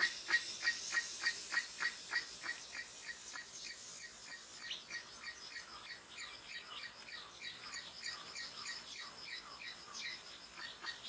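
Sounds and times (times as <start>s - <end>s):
birds chirping rapidly: 0.0s - 11.0s.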